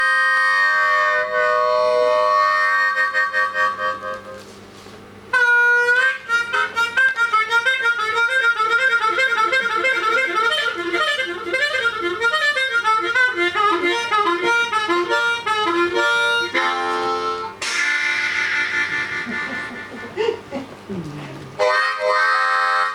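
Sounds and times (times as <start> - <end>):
harmonica chugging chords: 0.0 - 4.5, 5.3 - 20.7, 21.5 - 22.9.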